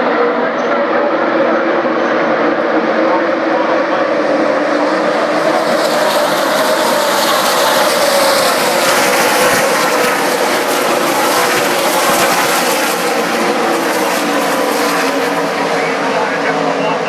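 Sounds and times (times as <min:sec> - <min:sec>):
race trucks engines droning: 0:00.0 - 0:17.0.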